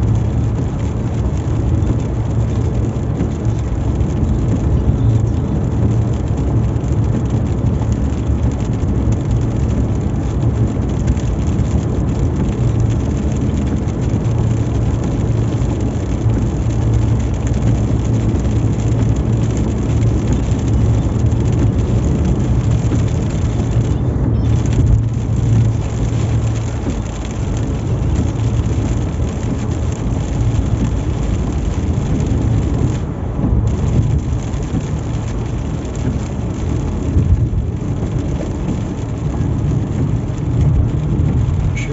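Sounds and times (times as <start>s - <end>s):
car road and engine noise: 0.0s - 41.9s
rain on car body: 0.0s - 41.9s.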